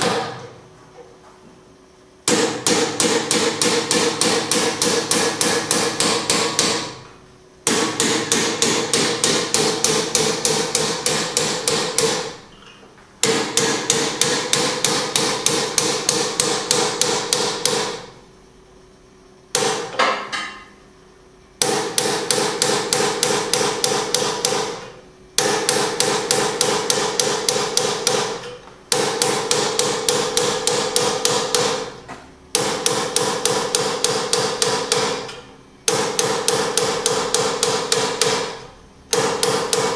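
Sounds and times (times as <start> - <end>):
hammer striking punch into steel: 2.3 - 7.0, 7.6 - 12.4, 13.2 - 18.1, 19.5 - 20.7, 21.6 - 32.0, 32.6 - 39.9.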